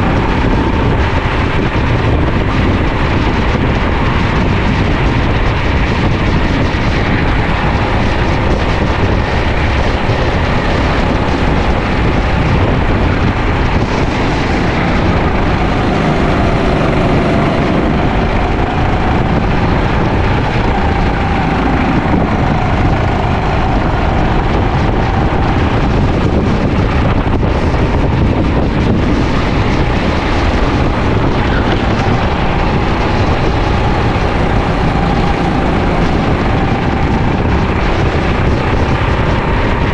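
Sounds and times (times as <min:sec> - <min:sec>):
kart engine running: 0:00.0 - 0:39.9
wind buffeting microphone: 0:00.0 - 0:39.9.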